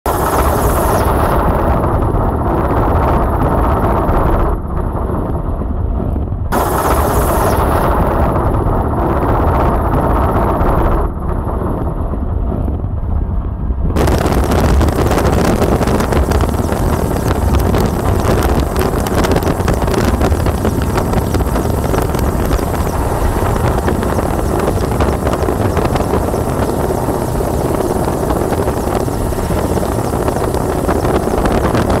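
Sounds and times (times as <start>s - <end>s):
helicopter rotor and engine rumble: 0.0s - 32.0s.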